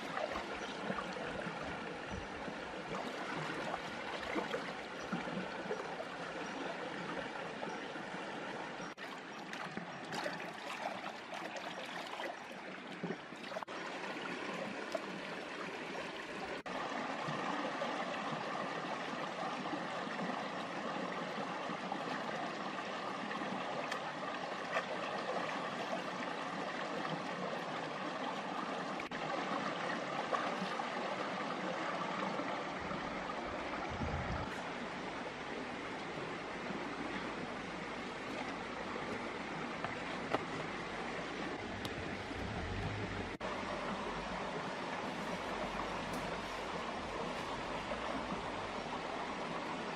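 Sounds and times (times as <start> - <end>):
stream running over rocks: 0.0 - 49.9.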